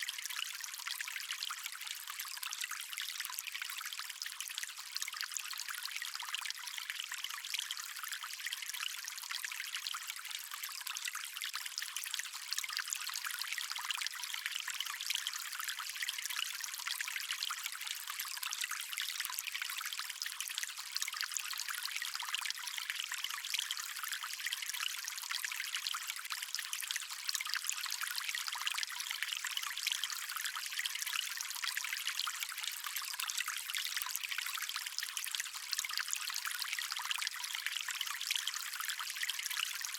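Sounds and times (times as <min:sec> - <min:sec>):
water stream trickling: 0:00.0 - 0:39.9.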